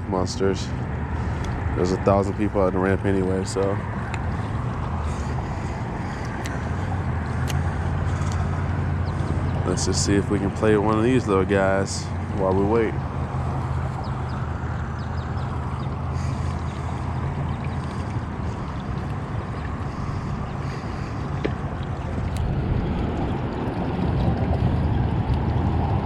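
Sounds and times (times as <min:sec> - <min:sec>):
boat engine idling: 0:00.0 - 0:26.0
water noise: 0:00.0 - 0:26.0
wind: 0:00.0 - 0:26.0.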